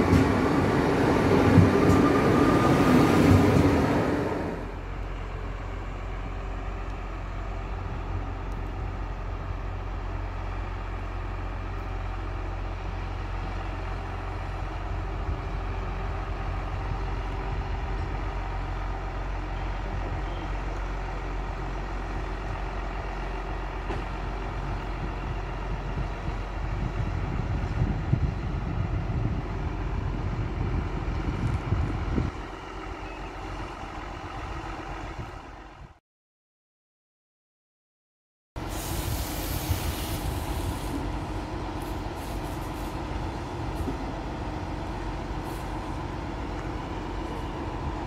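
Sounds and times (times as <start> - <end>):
rail vehicle diesel engine: 0.0 - 36.0, 38.6 - 48.0.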